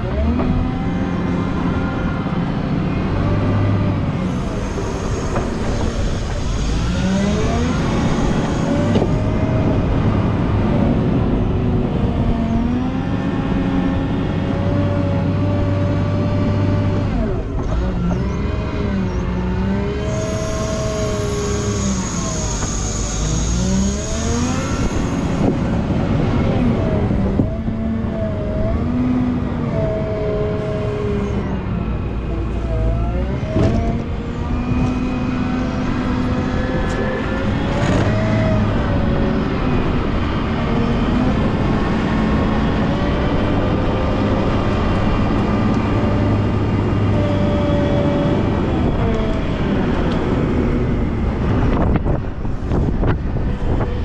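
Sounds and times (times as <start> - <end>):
wheel loader diesel engine revving: 0.0 - 54.0.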